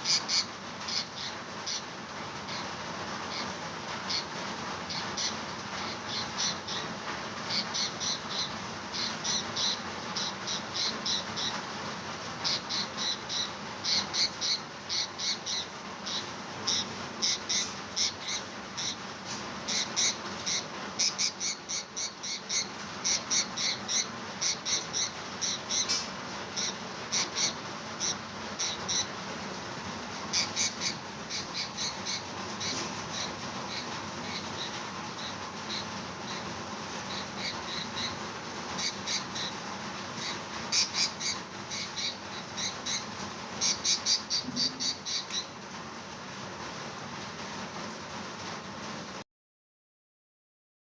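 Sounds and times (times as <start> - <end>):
parrot squawking: 0.0 - 11.7, 12.4 - 29.3, 30.1 - 45.6
steady background hiss: 0.0 - 49.2.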